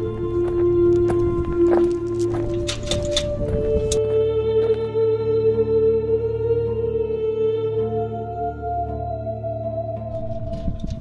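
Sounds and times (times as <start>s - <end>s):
ambient music with held tones: 0.0s - 11.0s.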